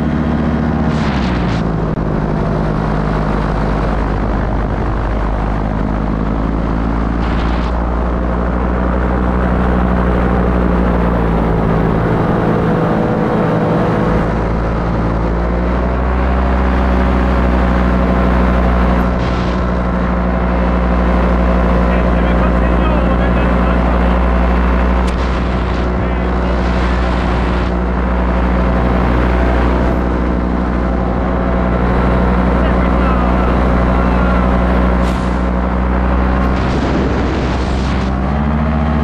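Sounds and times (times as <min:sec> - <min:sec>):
paramotor engine and propeller: 0:00.0 - 0:39.0.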